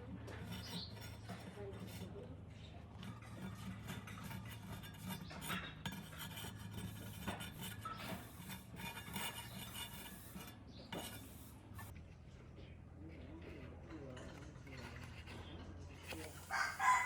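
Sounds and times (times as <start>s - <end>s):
light metallic clinks and scrapes: 0.2s - 12.0s, 13.1s - 17.0s.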